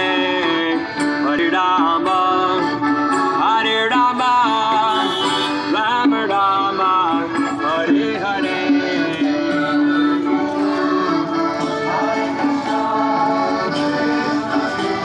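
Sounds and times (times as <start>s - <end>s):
harmonium chords: 0.0s - 15.0s
person singing melody: 0.0s - 15.0s.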